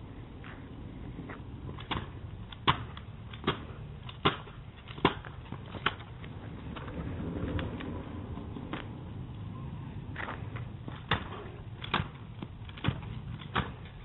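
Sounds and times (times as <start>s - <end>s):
small wheels rolling over pavement: 0.3s - 14.0s
wheels clicking over joints: 1.3s - 9.4s, 10.0s - 14.0s.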